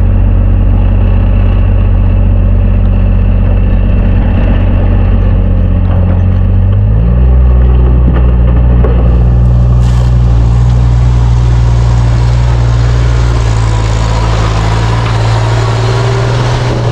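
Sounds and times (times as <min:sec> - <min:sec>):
engine running: 0:00.0 - 0:16.9.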